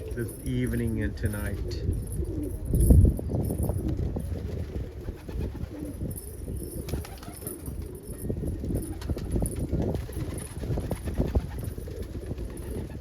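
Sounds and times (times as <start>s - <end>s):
pigeons cooing: 0.0s - 0.5s, 1.3s - 3.0s, 4.2s - 13.0s.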